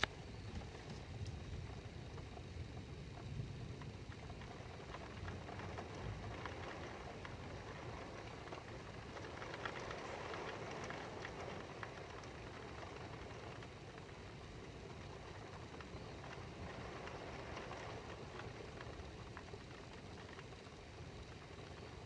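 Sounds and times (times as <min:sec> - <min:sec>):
raindrop ticks: 0:00.0 - 0:22.0
steady rain falling: 0:00.0 - 0:22.0.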